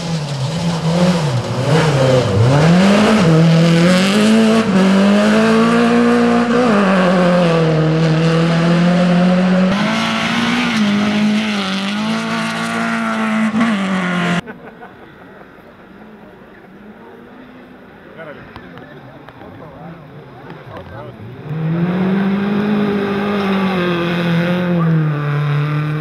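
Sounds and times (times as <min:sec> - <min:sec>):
rally car engine revving: 0:00.0 - 0:14.4, 0:19.3 - 0:26.0.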